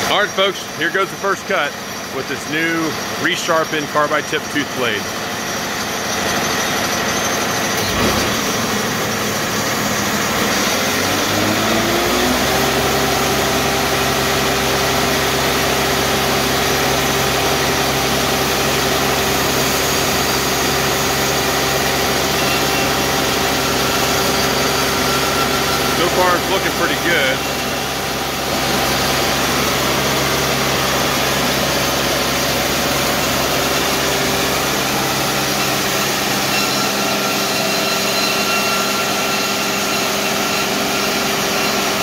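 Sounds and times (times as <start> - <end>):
sawmill engine idling and revving: 0.0 - 42.0.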